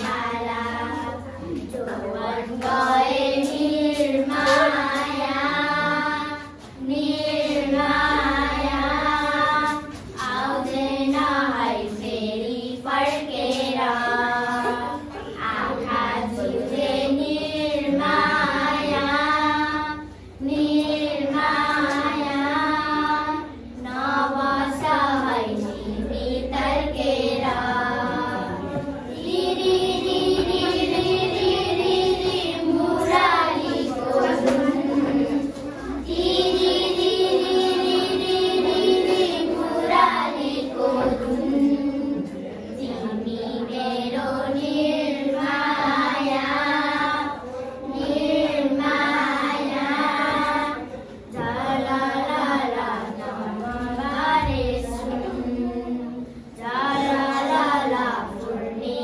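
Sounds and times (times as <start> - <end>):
girls singing unaccompanied: 0.0 - 59.0.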